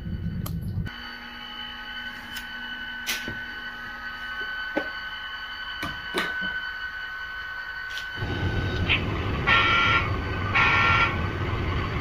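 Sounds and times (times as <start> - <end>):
high electric whine: 0.0 - 12.0.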